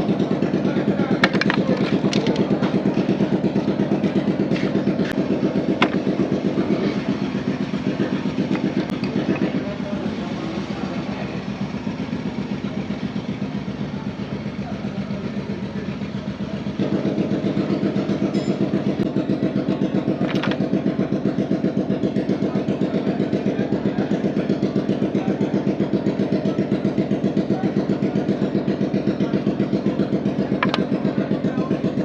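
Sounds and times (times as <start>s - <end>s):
scooter engine idling: 0.0s - 32.0s.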